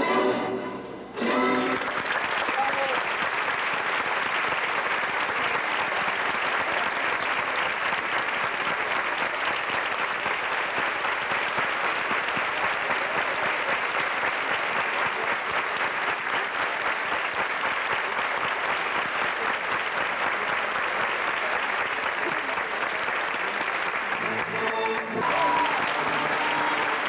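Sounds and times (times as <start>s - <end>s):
audience applauding: 1.2s - 27.0s.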